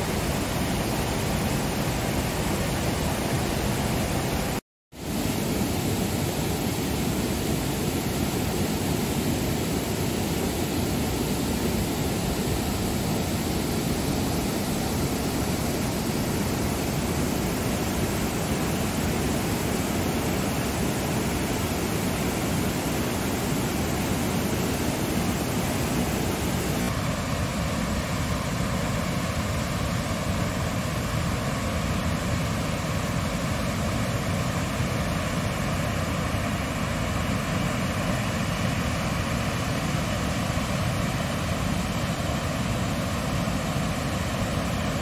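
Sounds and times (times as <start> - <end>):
water rushing over weir: 0.0 - 45.0.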